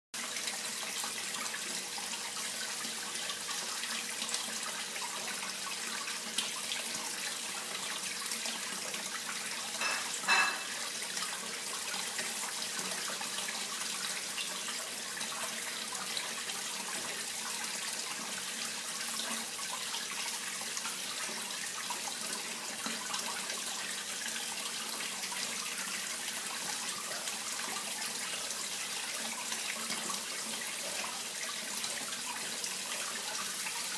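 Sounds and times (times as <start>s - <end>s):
running water: 0.2s - 33.9s.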